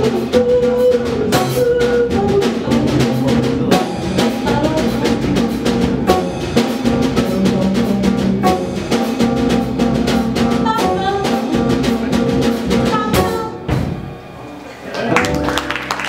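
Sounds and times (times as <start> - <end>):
drum kit beat: 0.0 - 14.3
double bass: 0.0 - 16.0.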